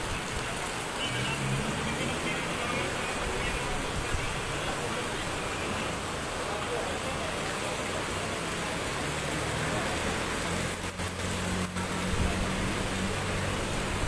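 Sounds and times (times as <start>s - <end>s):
fast-flowing river: 0.0s - 14.0s.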